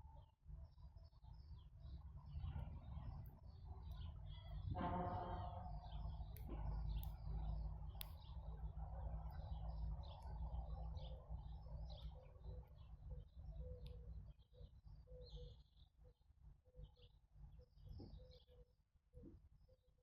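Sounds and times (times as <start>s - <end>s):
small birds chirping: 0.6s - 19.8s.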